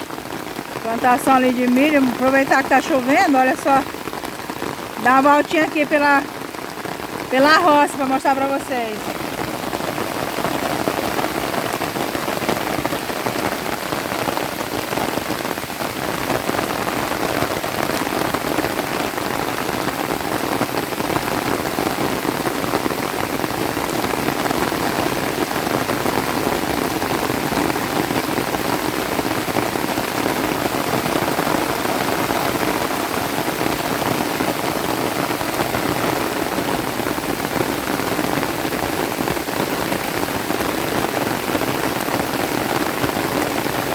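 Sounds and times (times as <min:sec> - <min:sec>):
steady rain pattering: 0:00.0 - 0:43.9.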